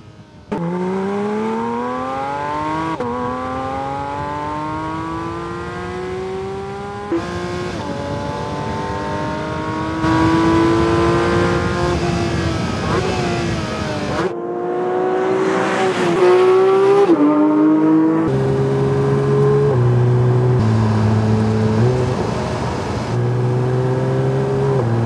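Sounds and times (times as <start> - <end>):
car engine accelerating hard: 0.5 - 25.0.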